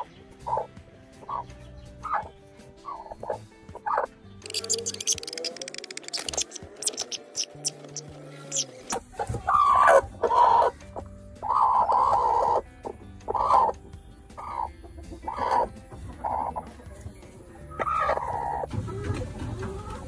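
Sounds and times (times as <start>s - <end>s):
hen clucking: 0.0s - 10.8s, 11.4s - 13.8s, 14.4s - 16.8s, 17.6s - 20.0s.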